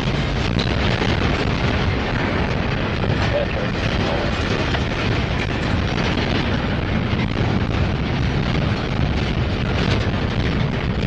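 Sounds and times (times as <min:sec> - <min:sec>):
steel wheels rumbling on rails: 0:00.0 - 0:11.0
train cars clanking: 0:00.0 - 0:11.0.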